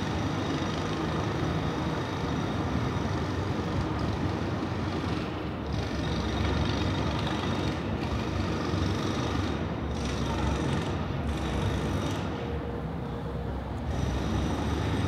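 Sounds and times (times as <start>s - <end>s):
urban machinery noise: 0.0s - 15.0s.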